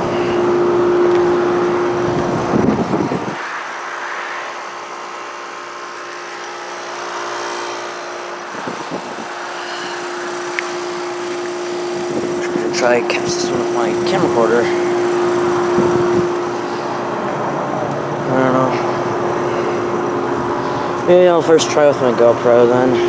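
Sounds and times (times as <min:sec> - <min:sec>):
heat pump humming: 0:00.0 - 0:23.0.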